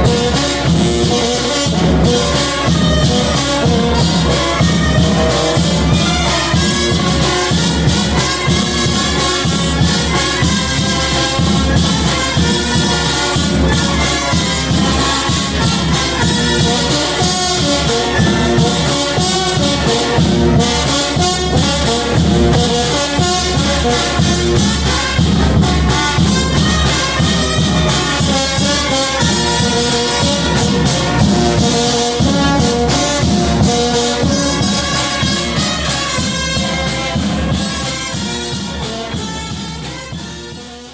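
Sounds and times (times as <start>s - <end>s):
brass band playing: 0.0s - 40.9s
steady drum beat: 0.0s - 40.9s.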